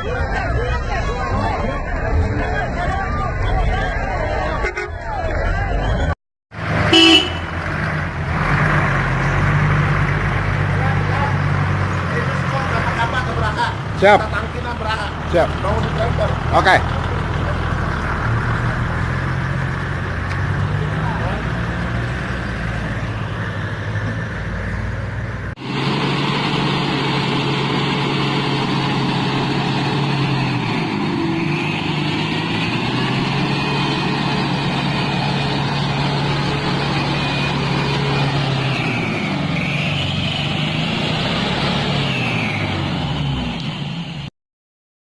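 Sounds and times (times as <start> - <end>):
off-road vehicle engine under load: 0.0 - 44.3.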